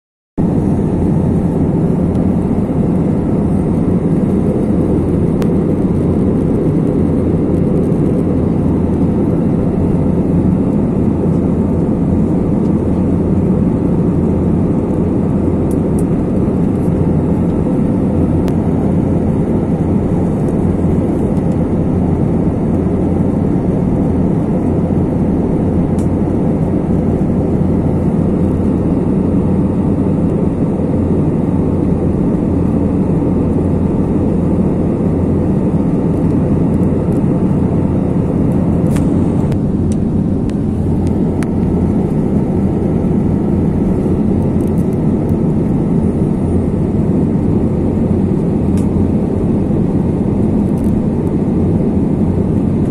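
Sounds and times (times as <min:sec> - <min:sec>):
airliner cabin engine rush: 0:00.4 - 0:52.9.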